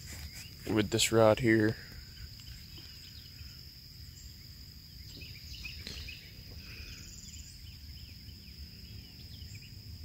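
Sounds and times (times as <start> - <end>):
birds chirping: 0.0 - 10.0
high insect drone: 0.0 - 10.0.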